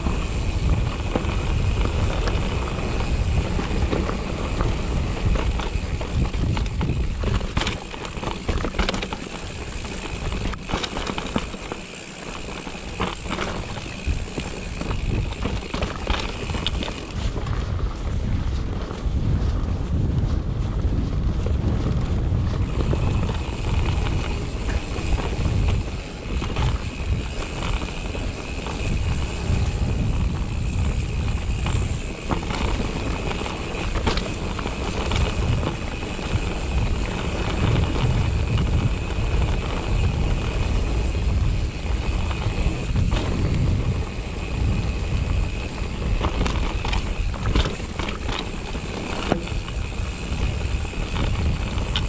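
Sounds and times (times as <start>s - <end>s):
bike clicks and knocks: 0.0s - 52.0s
bike tyres rumbling over rocky dirt: 0.0s - 52.0s
wind buffeting microphone: 0.0s - 52.0s.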